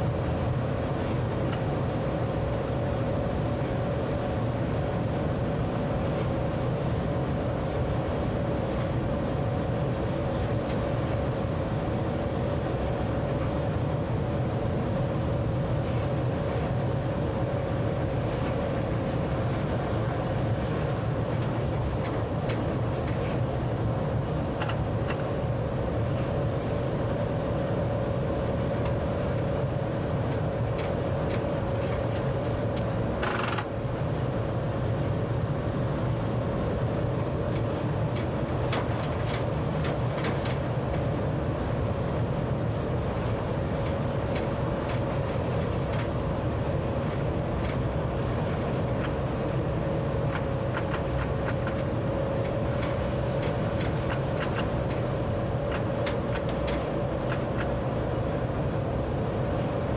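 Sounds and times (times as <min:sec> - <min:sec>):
constant whine: 0:00.0 - 0:59.9
train rumbling at speed: 0:00.0 - 0:59.9.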